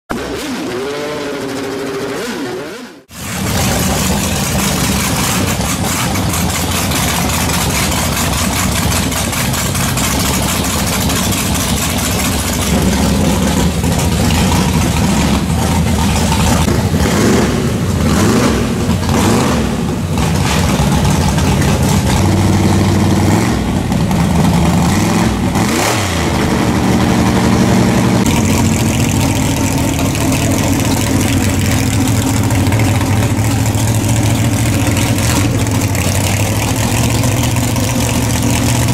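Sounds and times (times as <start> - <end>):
racing car engine idling and revving: 0.1 - 38.9.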